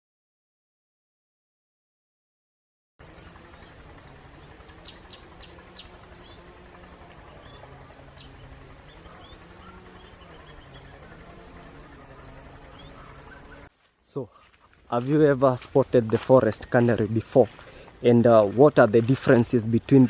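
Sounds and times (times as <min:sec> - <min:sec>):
small birds chirping: 0:03.0 - 0:20.0.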